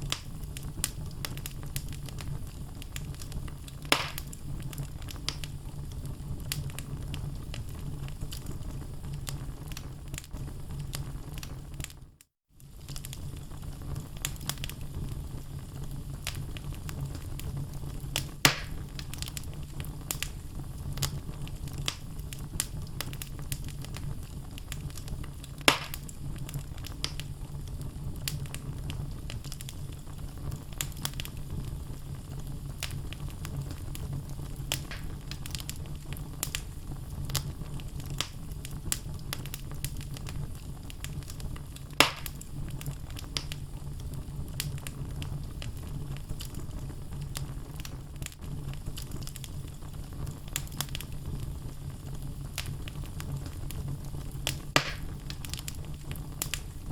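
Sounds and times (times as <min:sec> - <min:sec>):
loud fire pops: 0:00.0 - 0:56.9
low fire rumble: 0:00.0 - 0:56.9
wood fire crackling: 0:00.0 - 0:56.9.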